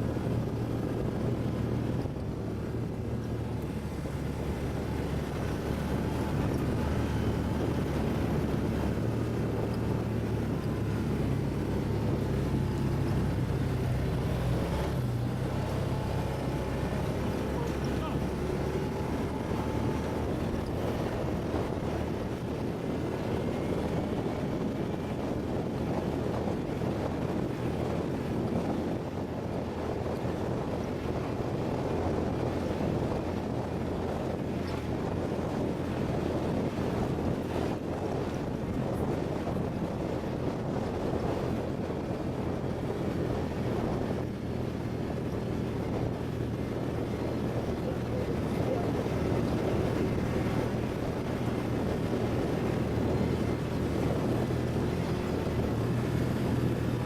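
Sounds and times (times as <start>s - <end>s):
atv engine running: 0.0s - 57.0s
wind noise on microphone: 0.0s - 57.0s.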